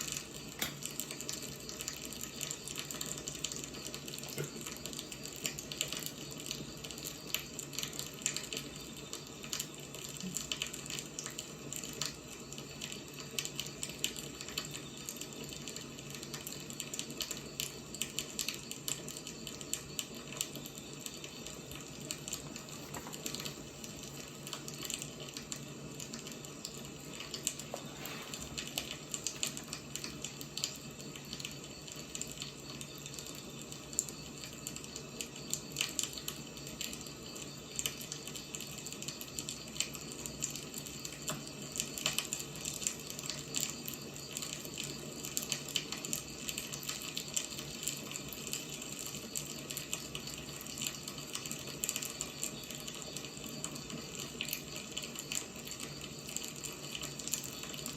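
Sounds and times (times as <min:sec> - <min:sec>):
firewood crackling and popping: 0:00.0 - 0:57.9.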